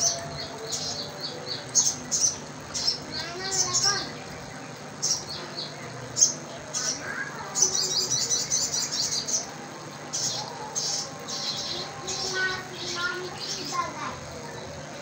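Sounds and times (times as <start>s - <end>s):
songbird chirping and trilling: 0.0s - 15.0s.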